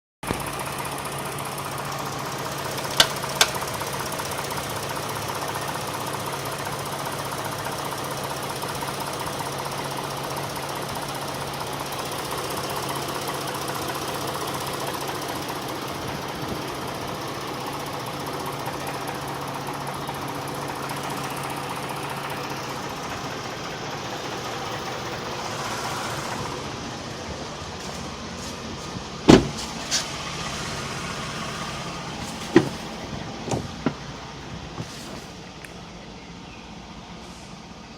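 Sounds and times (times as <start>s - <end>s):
engine idling with knocking: 0.2s - 37.9s.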